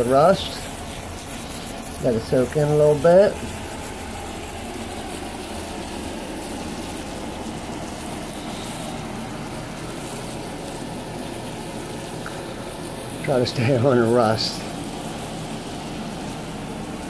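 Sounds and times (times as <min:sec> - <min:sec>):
carpet cleaning machine running: 0:00.0 - 0:17.0
spray hissing: 0:00.0 - 0:17.0.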